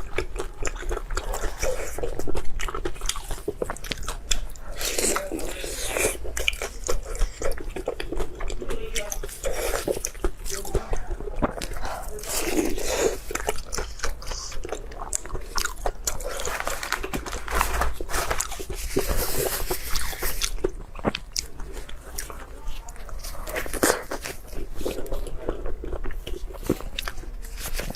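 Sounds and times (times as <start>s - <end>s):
biting and wet chewing: 0.0s - 27.9s.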